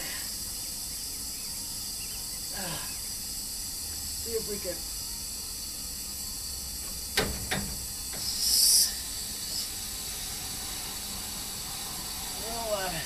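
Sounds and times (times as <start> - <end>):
gas hissing from hose fitting: 0.0 - 13.0.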